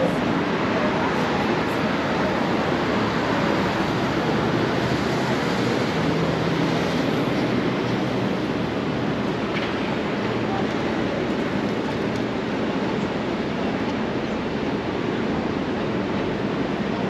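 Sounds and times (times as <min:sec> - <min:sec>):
rushing city ambience: 0:00.0 - 0:17.0.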